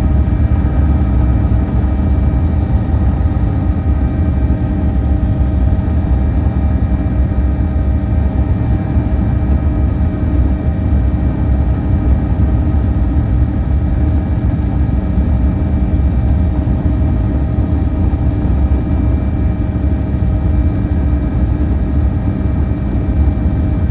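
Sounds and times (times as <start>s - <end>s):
helicopter cabin rumble: 0.0s - 23.9s
high-pitched whine: 0.0s - 23.9s.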